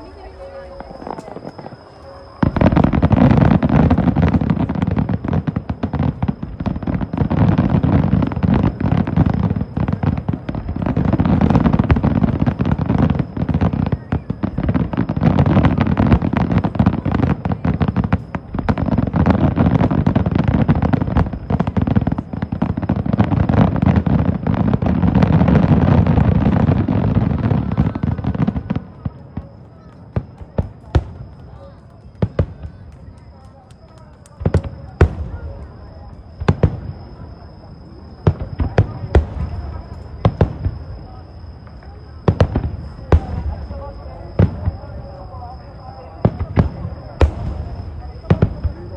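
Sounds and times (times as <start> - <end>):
fireworks booming and crackling: 0.0 - 48.9.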